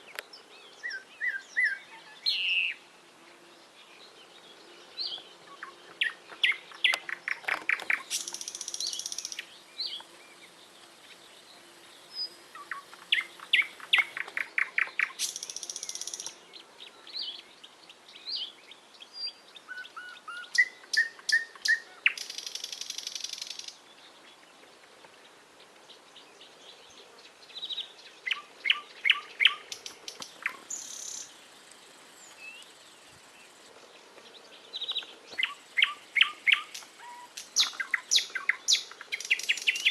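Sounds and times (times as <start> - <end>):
songbird singing with buzzy trill: 0.0 - 39.9.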